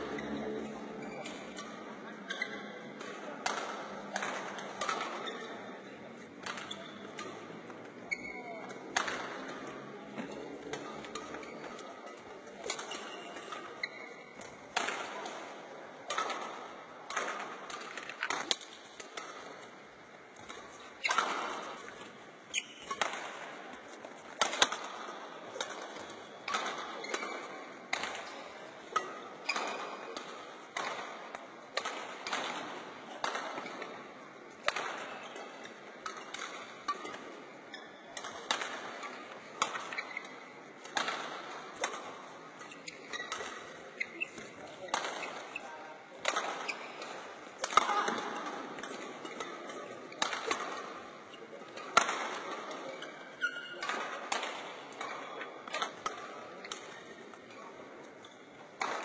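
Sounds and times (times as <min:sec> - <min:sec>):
rackets hitting shuttlecock: 0:00.0 - 0:59.0.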